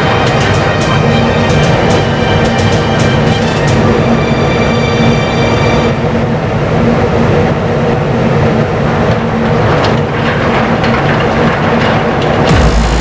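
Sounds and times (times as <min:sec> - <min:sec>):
ship machinery rumble: 0:00.0 - 0:13.0.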